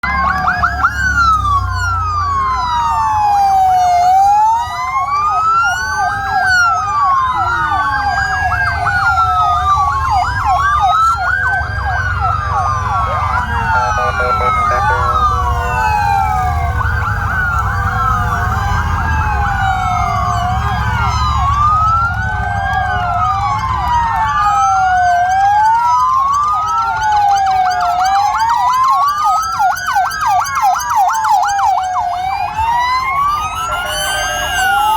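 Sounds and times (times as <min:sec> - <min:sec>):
low rumble of engines: 0:00.0 - 0:34.9
police sirens wailing: 0:00.0 - 0:34.9.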